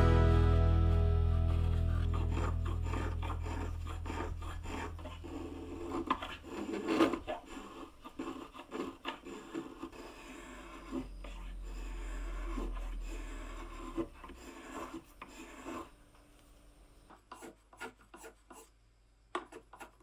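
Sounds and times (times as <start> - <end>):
spokeshave rasping on wood: 2.0 - 16.0, 17.2 - 18.8, 19.4 - 20.0.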